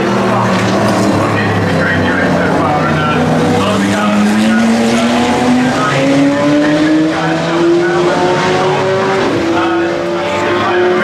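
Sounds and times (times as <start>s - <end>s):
race car engines accelerating: 0.0s - 11.0s.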